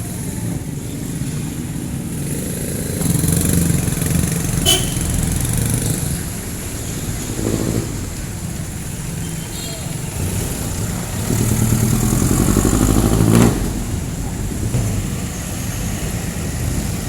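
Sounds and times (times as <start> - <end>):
street traffic engines rumbling: 0.0 - 17.0.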